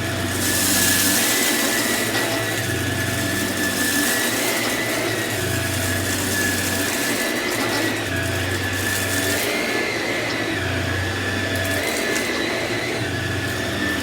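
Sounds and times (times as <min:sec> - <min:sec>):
upright vacuum whining: 0:00.0 - 0:14.0.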